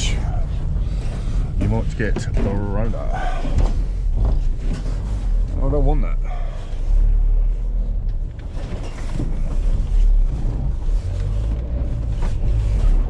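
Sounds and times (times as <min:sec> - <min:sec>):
road rumble: 0:00.0 - 0:13.0
vehicle engine: 0:00.0 - 0:13.0.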